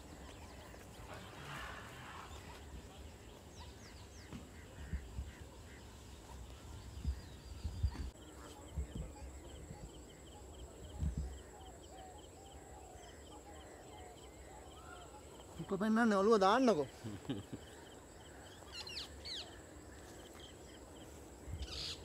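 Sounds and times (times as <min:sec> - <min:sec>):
bird calls: 0:00.0 - 0:22.0.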